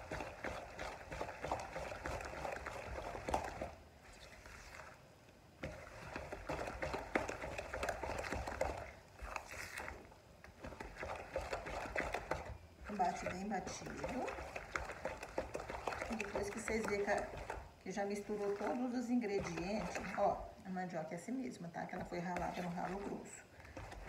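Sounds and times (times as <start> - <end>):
spoon beating batter in a bowl: 0.0 - 5.0, 5.6 - 24.0.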